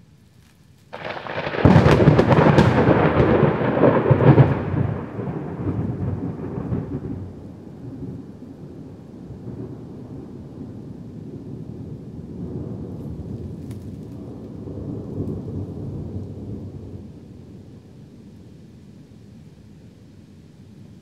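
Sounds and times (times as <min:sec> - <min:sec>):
thunder crackling and rumbling: 0:00.9 - 0:18.0.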